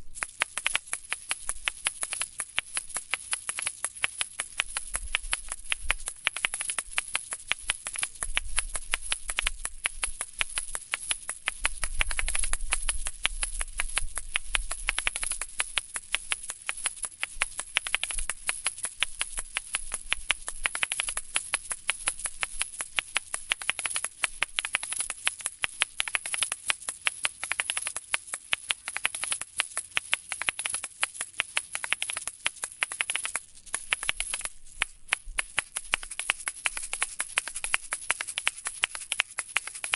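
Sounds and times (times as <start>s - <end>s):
shakers clicking and rattling: 0.0s - 39.9s.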